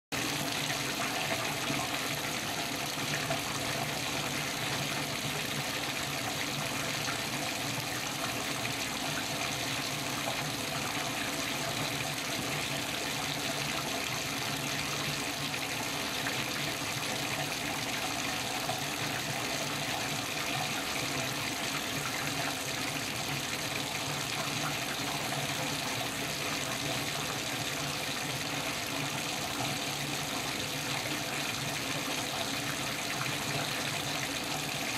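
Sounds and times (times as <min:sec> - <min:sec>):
water pouring into bathtub: 0:00.2 - 0:34.9.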